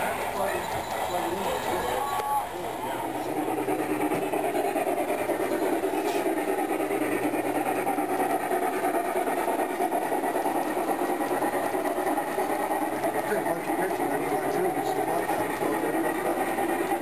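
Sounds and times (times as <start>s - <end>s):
model train rattling on track: 0.0s - 17.0s.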